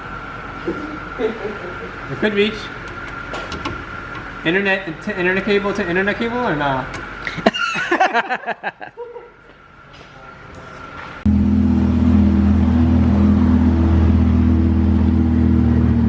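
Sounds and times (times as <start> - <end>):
car engine idling: 0.0 - 7.5, 10.6 - 16.0.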